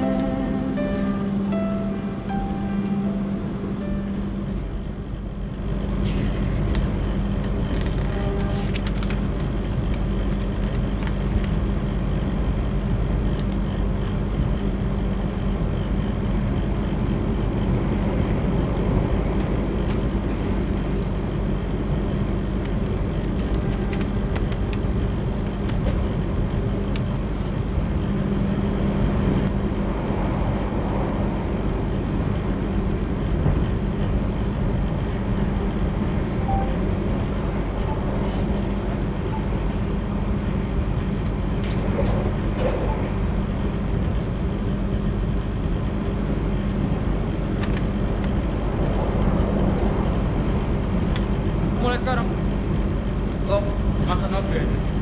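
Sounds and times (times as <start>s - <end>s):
train running noise inside carriage: 0.0s - 55.0s.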